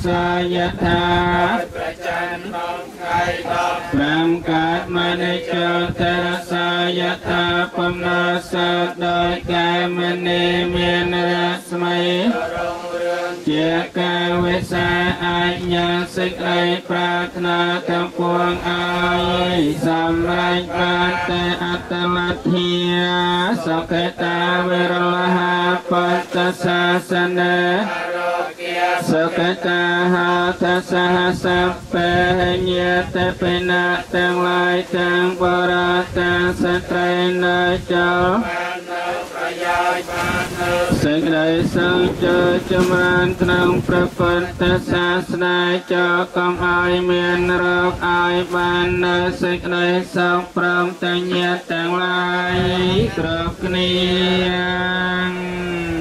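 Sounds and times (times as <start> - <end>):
person chanting into a microphone: 0.0 - 56.0.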